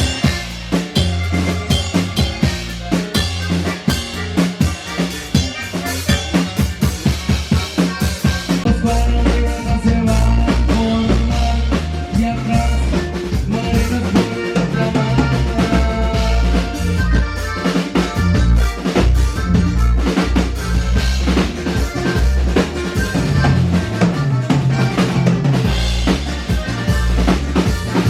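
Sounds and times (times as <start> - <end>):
band music: 0.0 - 28.0
drum kit fast beat: 0.0 - 28.0
heavy bass: 0.0 - 28.0.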